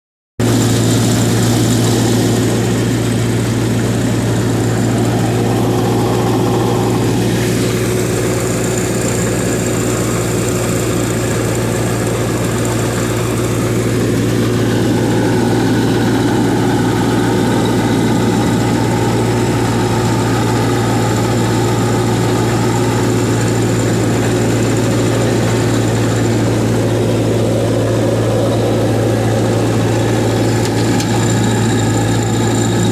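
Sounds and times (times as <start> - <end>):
tractor engine running steadily: 0.4 - 32.9.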